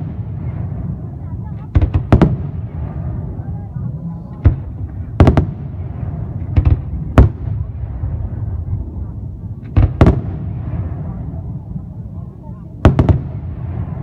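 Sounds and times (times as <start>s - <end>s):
fireworks bangs: 0.0s - 11.9s, 12.6s - 14.0s
steady low rumble: 0.0s - 14.0s.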